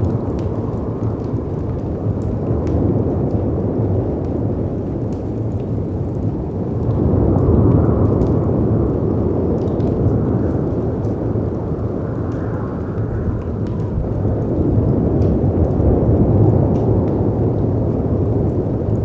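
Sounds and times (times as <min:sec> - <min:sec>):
fireplace crackles: 0:00.0 - 0:19.0
wind rumbling: 0:00.0 - 0:19.0.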